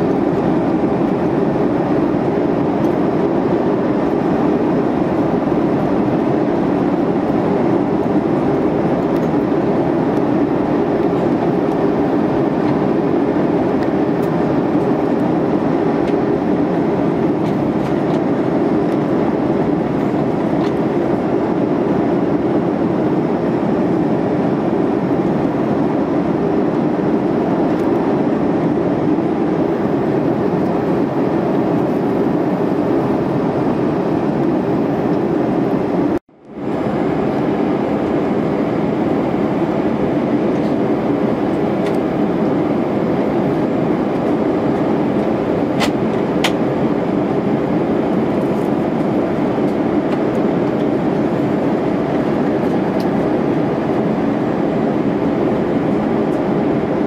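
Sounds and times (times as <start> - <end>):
airflow rushing over fuselage: 0.0 - 57.0
low hum of jet engines: 0.0 - 57.0.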